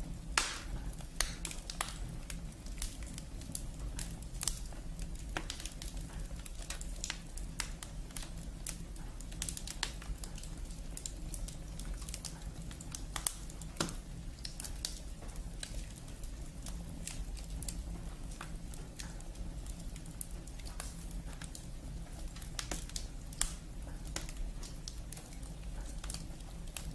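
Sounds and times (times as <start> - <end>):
wood fire crackling: 0.0 - 26.9.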